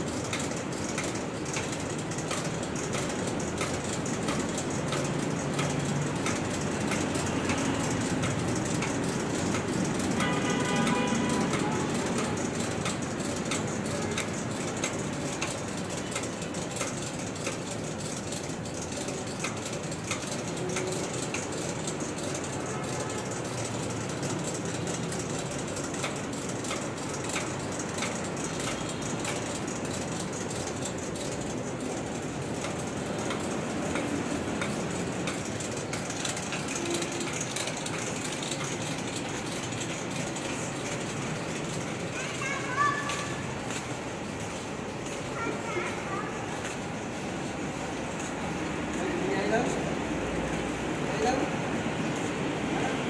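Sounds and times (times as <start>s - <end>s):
light clicks and ticks: 0.0s - 52.5s
machinery running: 0.0s - 53.0s.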